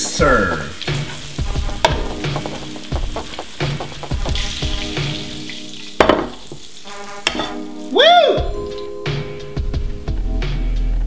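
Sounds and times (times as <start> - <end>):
oil sizzling in a frying pan: 0.0 - 10.0
background music with steady beat: 0.0 - 11.0.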